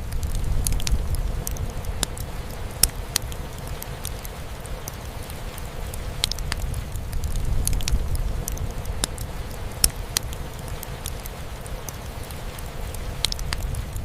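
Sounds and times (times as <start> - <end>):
fireplace crackling and popping: 0.0 - 14.0
rain drumming on a roof: 0.0 - 14.0.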